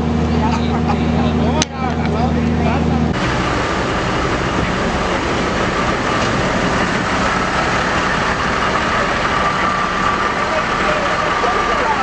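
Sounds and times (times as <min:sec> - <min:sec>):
diesel engine idling: 0:00.0 - 0:12.0
thin steady whine: 0:00.0 - 0:12.0.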